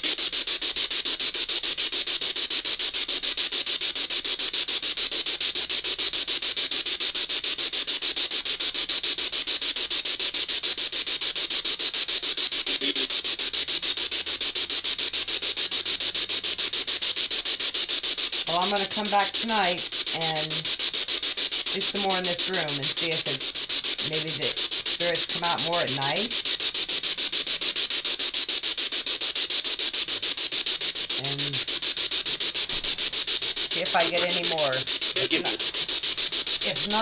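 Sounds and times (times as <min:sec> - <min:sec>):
radio static chopped rapidly: 0:00.0 - 0:37.0.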